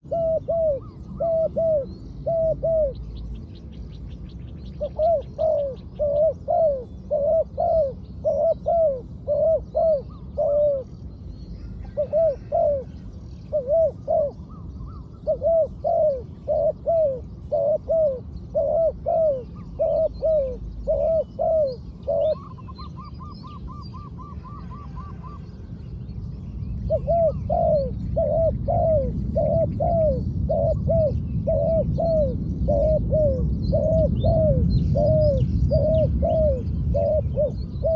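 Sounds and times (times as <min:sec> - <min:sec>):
dove cooing: 0:00.0 - 0:11.0, 0:11.6 - 0:25.7, 0:26.8 - 0:37.9.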